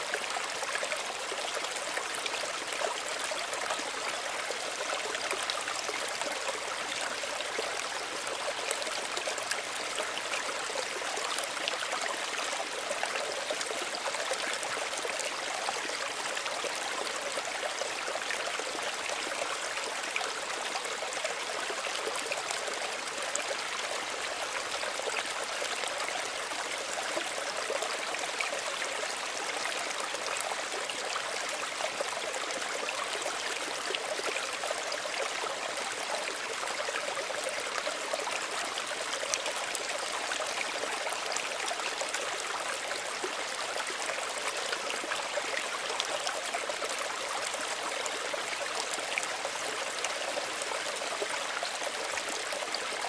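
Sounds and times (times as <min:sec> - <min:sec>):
stream running over stones: 0:00.0 - 0:53.0.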